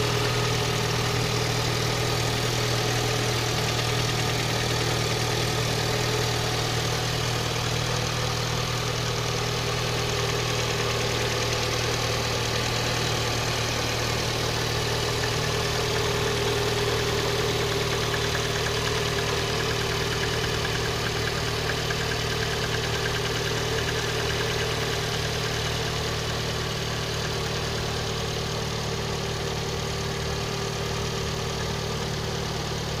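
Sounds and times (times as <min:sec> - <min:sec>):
car engine idling: 0:00.0 - 0:33.0
engine knock: 0:00.0 - 0:33.0.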